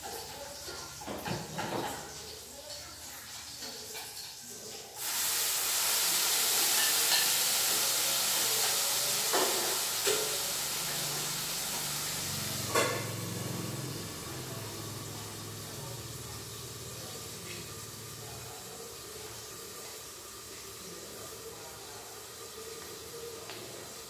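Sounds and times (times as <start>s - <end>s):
food sizzling in frying pan: 0.0s - 24.0s.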